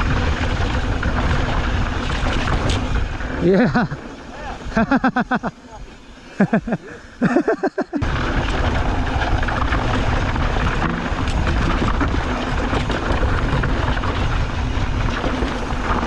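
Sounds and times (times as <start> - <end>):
tyres rolling over dirt trail: 0.0 - 16.0
wind rushing over microphone: 0.0 - 16.0.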